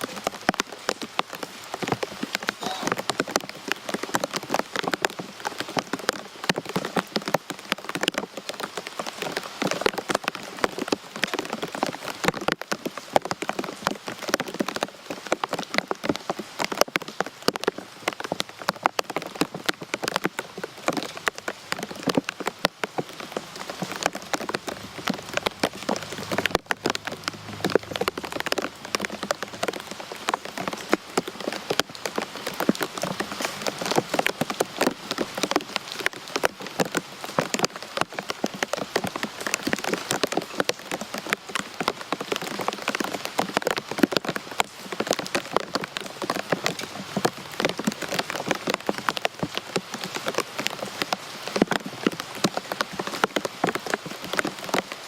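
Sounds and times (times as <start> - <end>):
rain drops striking a surface: 0.0 - 55.0.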